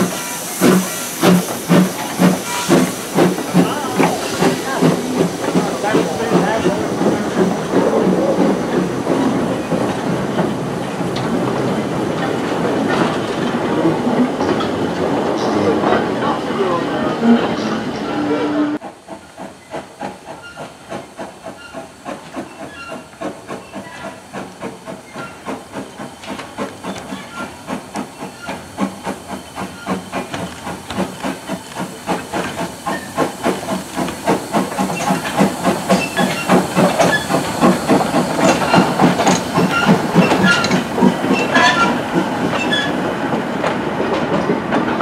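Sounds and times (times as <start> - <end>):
steam locomotive exhaust beats: 0.0 - 16.1, 18.7 - 45.0
steam hissing: 0.0 - 45.0.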